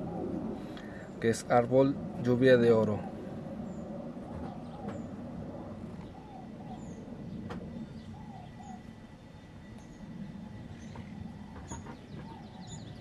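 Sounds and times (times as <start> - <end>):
lower curved bird calls: 0.0 - 1.6, 2.2 - 13.0
birds chirping: 0.0 - 13.0
steady low rumble: 0.0 - 13.0.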